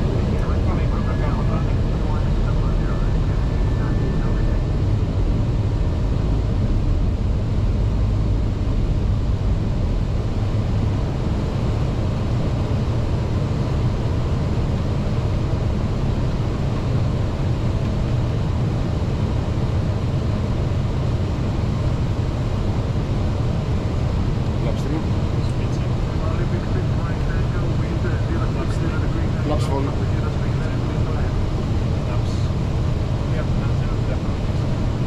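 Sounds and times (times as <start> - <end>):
aircraft cabin low rumble: 0.0 - 35.0.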